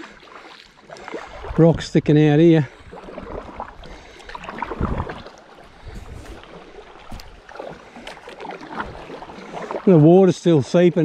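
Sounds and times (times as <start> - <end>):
paddle blades splashing: 0.0 - 11.0.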